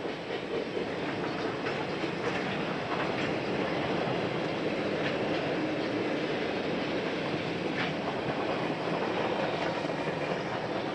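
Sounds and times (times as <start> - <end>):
clacks over rail joints: 0.0 - 10.9
train wheels rumbling on rail: 0.0 - 10.9.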